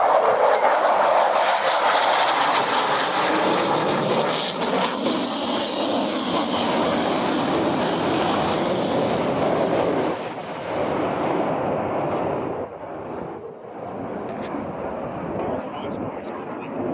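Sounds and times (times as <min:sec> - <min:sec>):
jet engine roar: 0:00.0 - 0:16.9.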